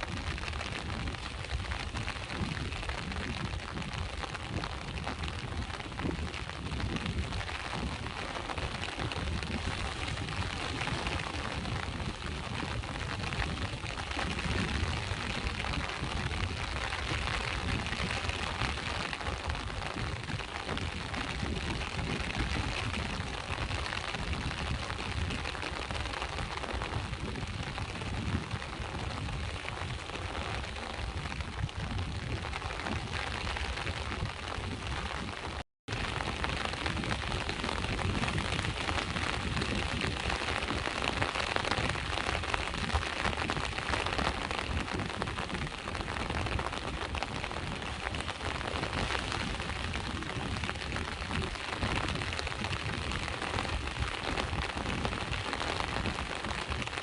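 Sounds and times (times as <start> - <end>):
sea waves washing against shore: 0.0 - 57.0
steady rain: 0.0 - 57.0.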